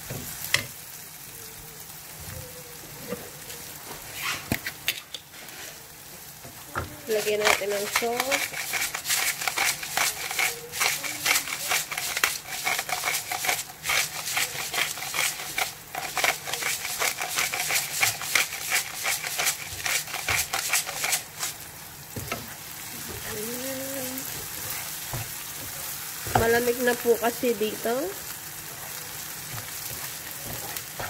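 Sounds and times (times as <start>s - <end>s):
food sizzling in oil: 0.0s - 31.0s
wooden spatula scraping a pan: 3.9s - 5.8s, 6.5s - 21.6s, 22.2s - 27.9s, 28.6s - 31.0s.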